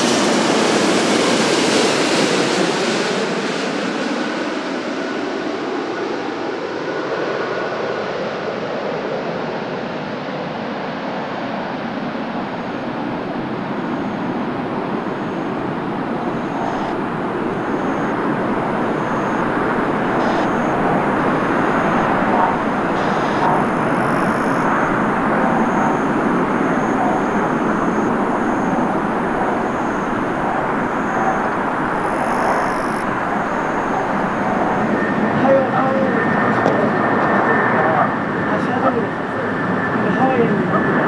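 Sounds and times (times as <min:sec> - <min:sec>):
jet engines rushing: 0:00.0 - 0:41.0.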